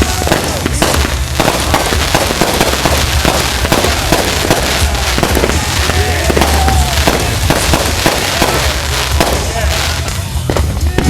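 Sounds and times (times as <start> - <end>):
deep rumble: 0.0 - 11.0
fireworks bangs and crackles: 0.0 - 11.0.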